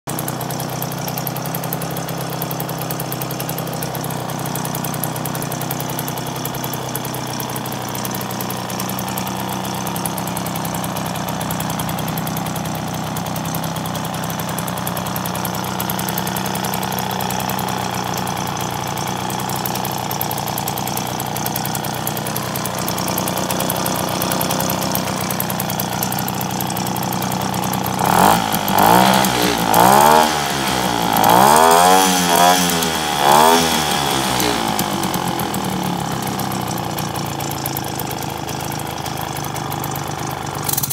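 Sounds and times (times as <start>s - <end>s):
moped engine idling: 0.0s - 40.9s
moped engine revving: 0.1s - 40.9s.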